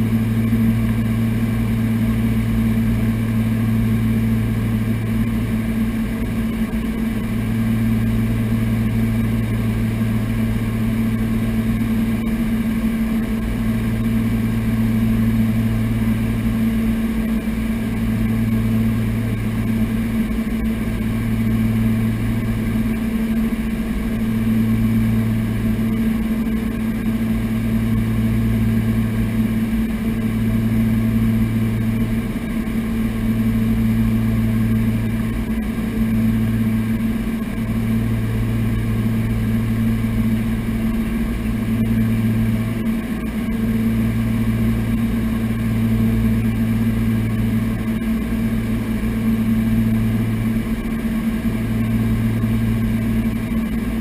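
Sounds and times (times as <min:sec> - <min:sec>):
propeller plane engines droning: 0:00.0 - 0:54.0.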